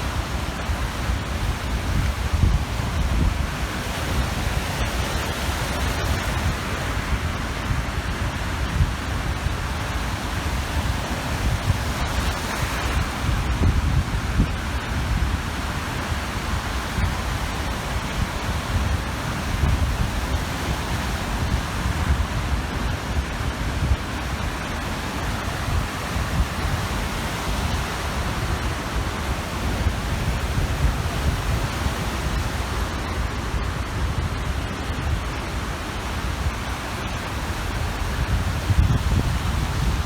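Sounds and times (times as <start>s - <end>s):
small waves washing ashore: 0.0s - 40.0s
wind buffeting microphone: 0.0s - 40.0s.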